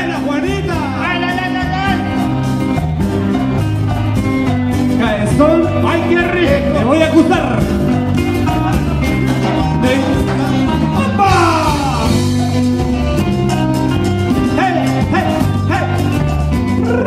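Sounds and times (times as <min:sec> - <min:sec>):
bass line: 0:00.0 - 0:17.0
drums: 0:00.0 - 0:17.0
electric guitar: 0:00.0 - 0:17.0
gliding melodic line: 0:00.2 - 0:16.9.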